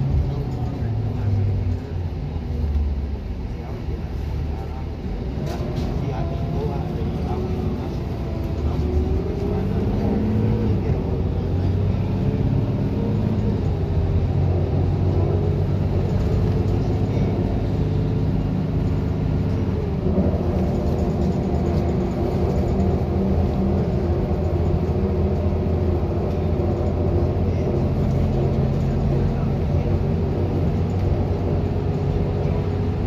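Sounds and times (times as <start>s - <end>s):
bus engine running: 0.0s - 33.0s
road noise: 0.0s - 33.0s.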